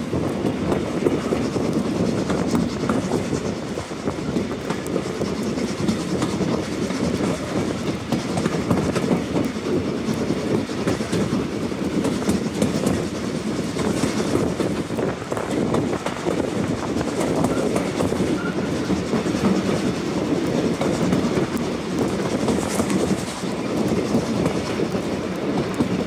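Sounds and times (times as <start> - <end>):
train coaches rumbling: 0.0 - 26.0.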